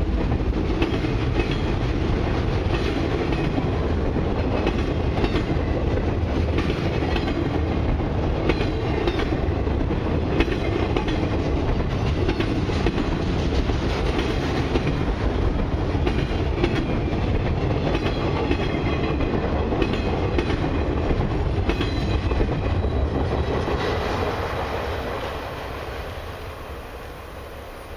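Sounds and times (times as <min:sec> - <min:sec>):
train wheels rumbling and clicking: 0:00.0 - 0:27.9.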